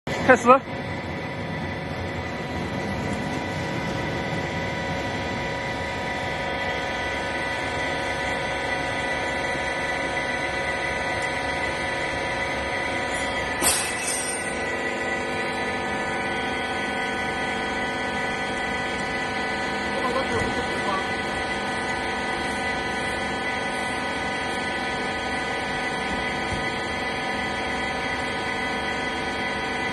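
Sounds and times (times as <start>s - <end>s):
machine humming and whining: 0.1s - 29.9s.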